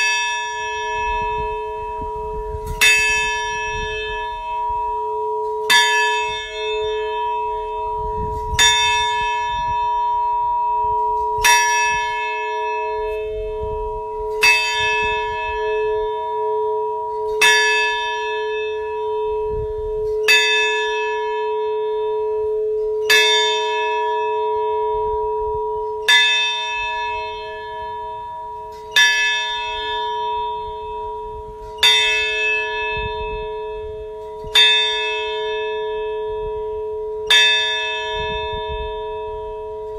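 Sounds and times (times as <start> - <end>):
large bell struck slowly: 0.0 - 39.9.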